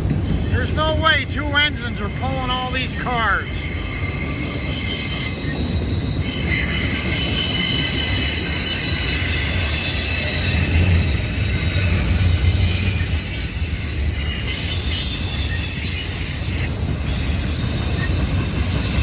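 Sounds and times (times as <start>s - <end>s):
train wheels rumbling on rail: 0.0s - 19.0s
high wheel squeals: 3.4s - 19.0s.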